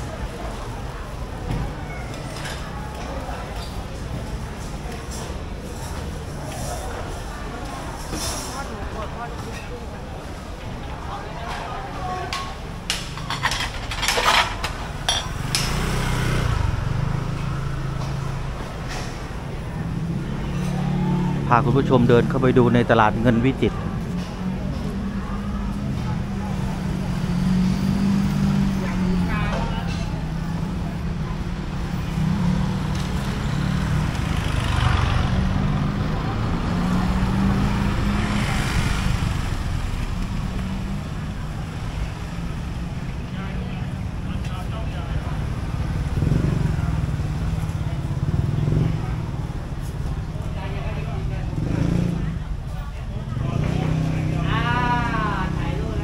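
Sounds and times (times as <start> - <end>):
traffic engines humming: 0.0 - 56.0.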